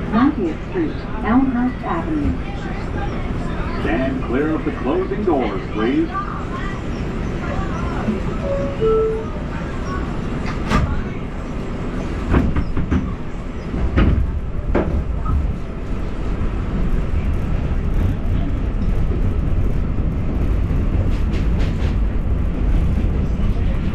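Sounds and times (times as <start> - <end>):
rumble of train wheels on track: 0.0 - 23.9
train clacks: 0.0 - 23.9.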